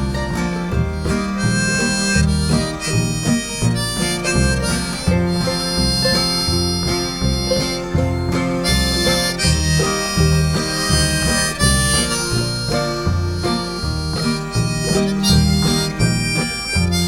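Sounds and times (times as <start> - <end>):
bass line: 0.0 - 17.0
lead melody of held notes: 0.0 - 17.0
plucked guitar: 0.0 - 17.0.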